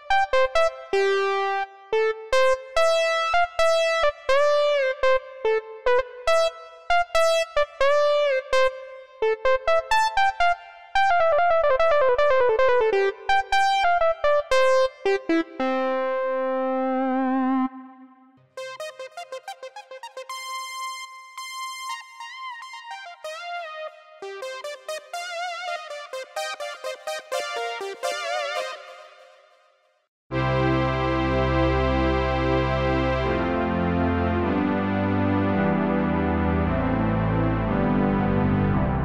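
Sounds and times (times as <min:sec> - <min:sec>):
synthesizer melody with pitch bends: 0:00.0 - 0:29.7, 0:30.3 - 0:39.0.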